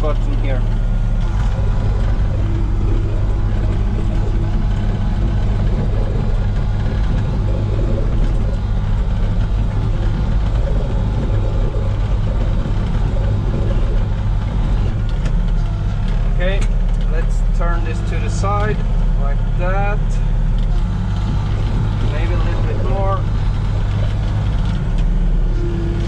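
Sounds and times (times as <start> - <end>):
mini excavator diesel engine: 0.0 - 26.0.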